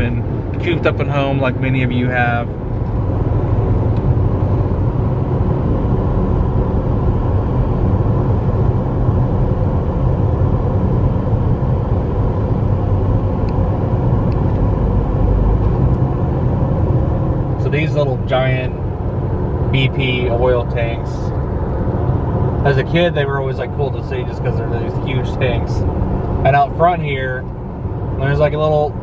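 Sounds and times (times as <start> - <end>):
car cabin road drone: 0.0 - 29.0.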